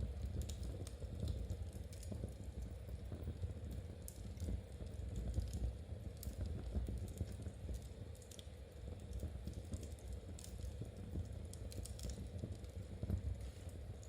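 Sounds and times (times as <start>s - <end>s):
fireplace crackling and popping: 0.0s - 14.0s.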